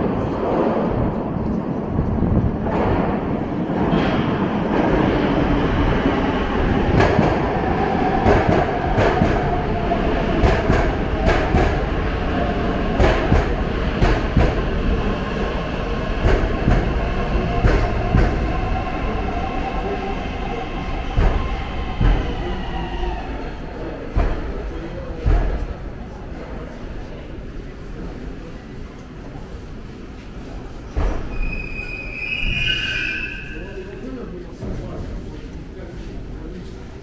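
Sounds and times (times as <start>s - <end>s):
metro train rumbling: 0.0s - 37.0s.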